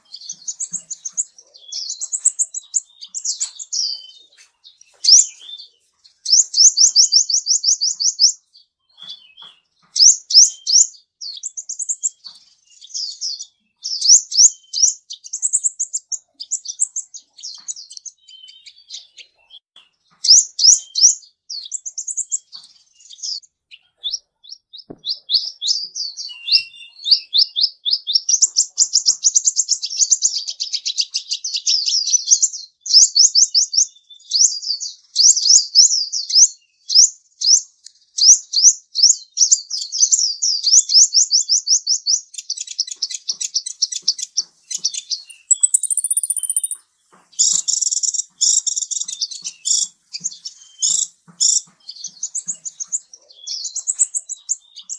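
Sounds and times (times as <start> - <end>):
small bird chirping: 0.0 - 54.9.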